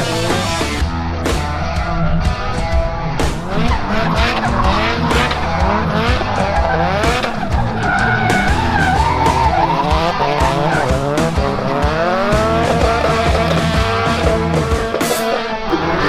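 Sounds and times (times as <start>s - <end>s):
car engine revving: 0.0s - 16.0s
tyres skidding and squealing: 0.0s - 16.0s.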